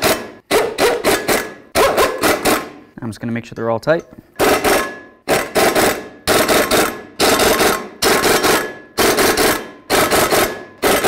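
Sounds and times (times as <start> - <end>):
impact wrench hammering rattle: 0.0 - 2.9, 4.0 - 11.0.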